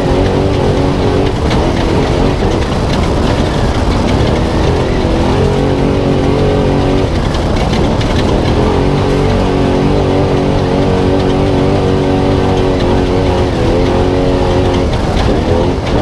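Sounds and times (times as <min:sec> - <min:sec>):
knocks and rattles: 0:00.0 - 0:16.0
truck engine revving: 0:00.0 - 0:16.0.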